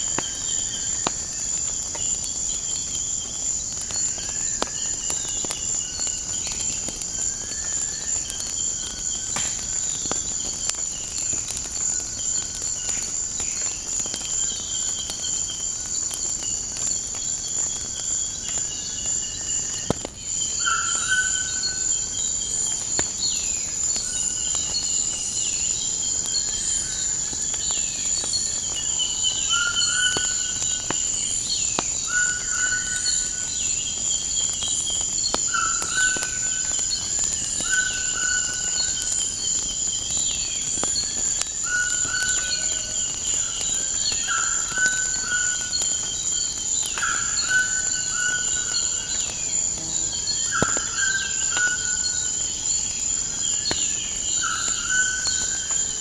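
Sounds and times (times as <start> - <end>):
crickets chirping: 0.0 - 56.0
fire crackling clicks: 0.0 - 56.0.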